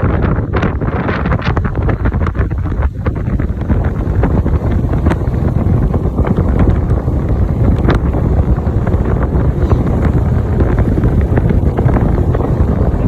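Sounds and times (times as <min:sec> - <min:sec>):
snowmobile engine rumble: 0:00.0 - 0:13.0
wind buffeting microphone: 0:00.0 - 0:13.0.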